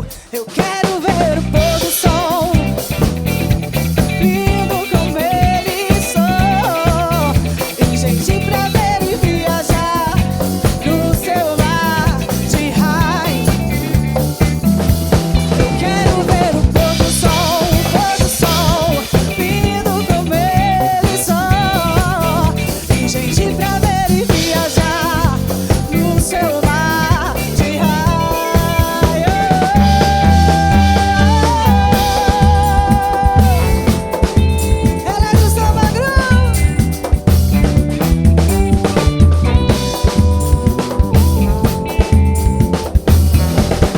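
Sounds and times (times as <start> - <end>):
band playing samba groove: 0.0 - 43.9
wavering lead melody: 1.6 - 43.9.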